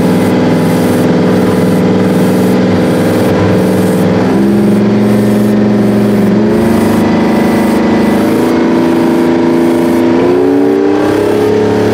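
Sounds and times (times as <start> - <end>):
diesel tractor engine running: 0.0 - 11.9.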